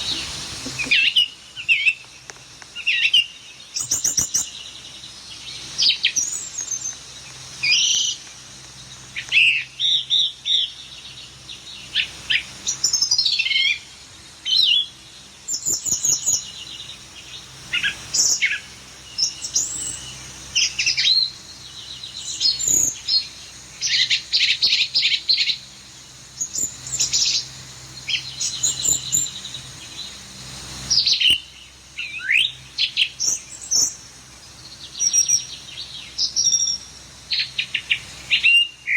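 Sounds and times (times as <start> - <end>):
bird chirping and twittering: 0.0 - 13.8, 14.4 - 38.9.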